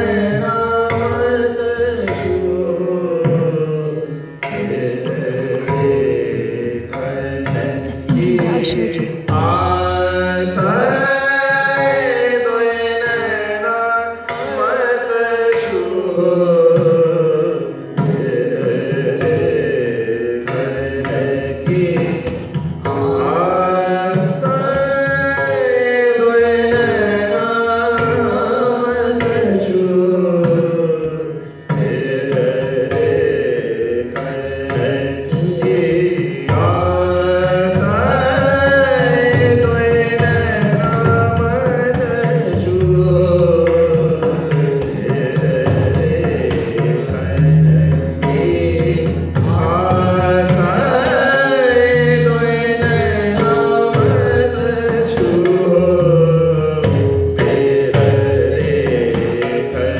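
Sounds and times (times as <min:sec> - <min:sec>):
devotional singing: 0:00.0 - 0:22.3, 0:22.9 - 0:59.9
tabla drumming: 0:00.0 - 0:59.9.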